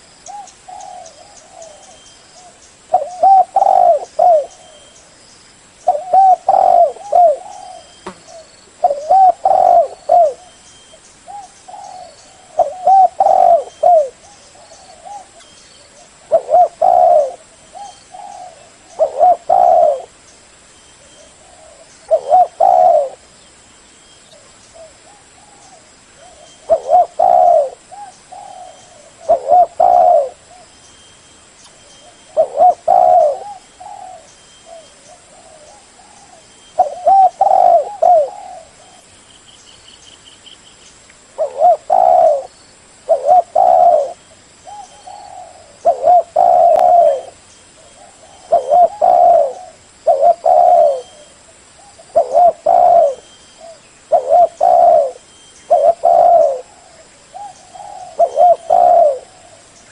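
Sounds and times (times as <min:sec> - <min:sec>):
dove cooing: 0:00.0 - 0:05.0, 0:05.9 - 0:10.6, 0:11.3 - 0:20.2, 0:21.1 - 0:23.3, 0:24.4 - 0:30.7, 0:31.9 - 0:39.1, 0:41.4 - 0:59.7.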